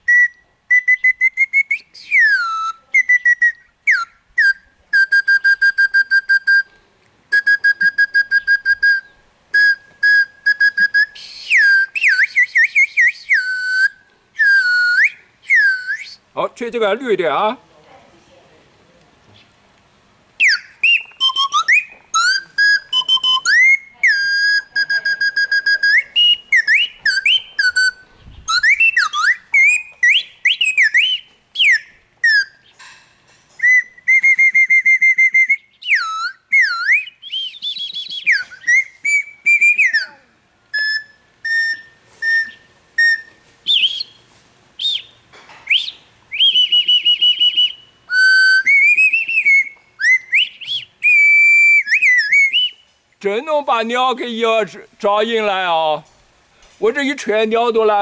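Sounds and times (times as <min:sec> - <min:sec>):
bird-call whistle chirps and trills: 0:00.0 - 0:06.7, 0:07.3 - 0:16.2, 0:20.4 - 0:32.8, 0:33.6 - 0:52.9.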